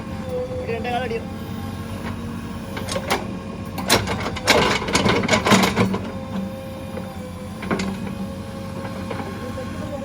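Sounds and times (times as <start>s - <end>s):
backhoe loader running: 0.0s - 10.0s.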